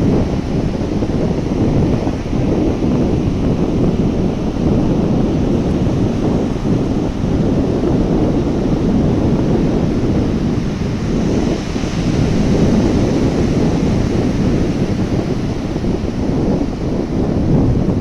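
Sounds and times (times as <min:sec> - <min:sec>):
sea waves breaking: 0:00.0 - 0:18.0
wind buffeting microphone: 0:00.0 - 0:18.0.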